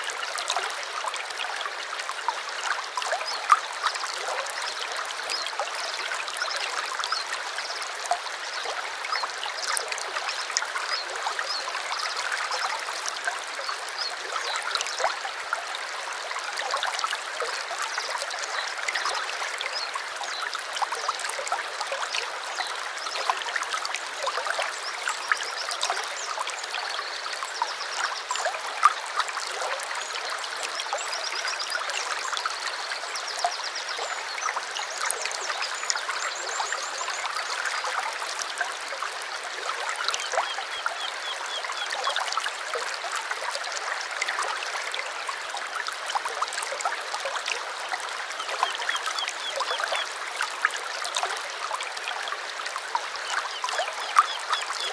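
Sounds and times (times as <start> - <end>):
stream trickling and gurgling: 0.0 - 54.9.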